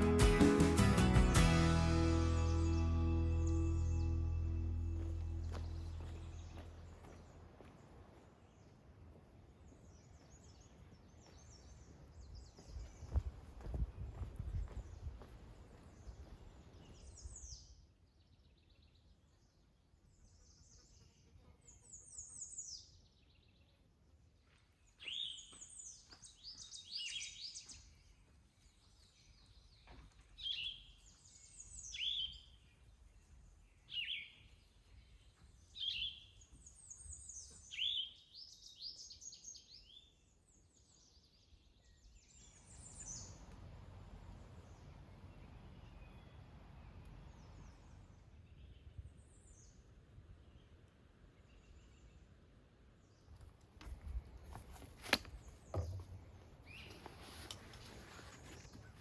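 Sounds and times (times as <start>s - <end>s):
songbirds singing: 0.0s - 23.9s, 24.8s - 54.2s, 55.1s - 59.0s.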